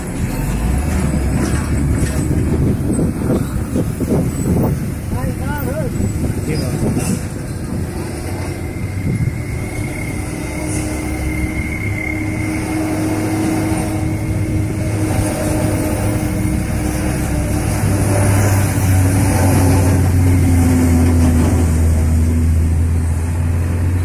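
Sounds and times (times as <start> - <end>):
truck diesel engines running: 0.0 - 24.0.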